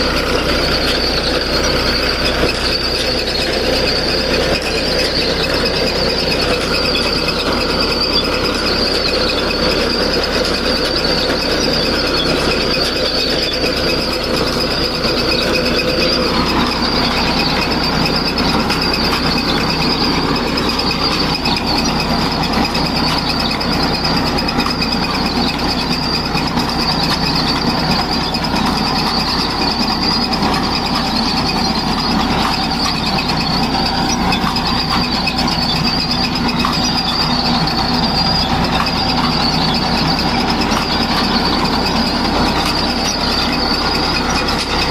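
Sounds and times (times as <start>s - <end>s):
harvester engine running: 0.0s - 44.9s
high-pitched whine: 0.0s - 44.9s.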